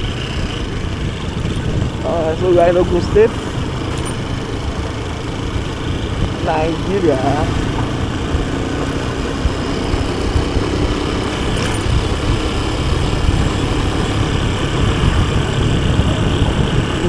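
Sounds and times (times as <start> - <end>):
motorcycle engine: 0.0 - 17.0
road noise: 0.0 - 17.0.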